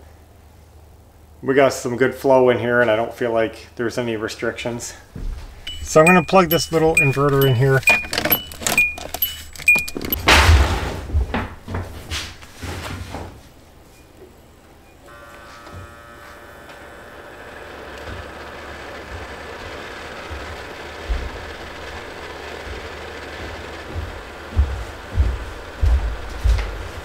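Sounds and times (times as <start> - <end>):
ventilation fan whirring: 0.2 - 27.0.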